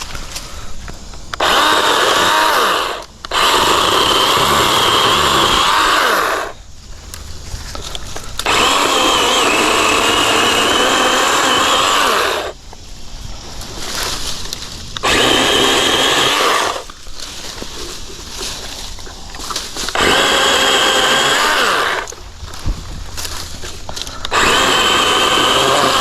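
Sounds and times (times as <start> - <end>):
battery chainsaw cutting limbs: 1.4 - 12.6, 14.9 - 26.0.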